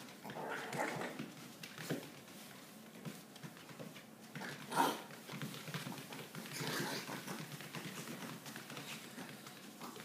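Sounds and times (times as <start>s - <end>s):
dog paws tapping on mat: 0.0s - 10.0s.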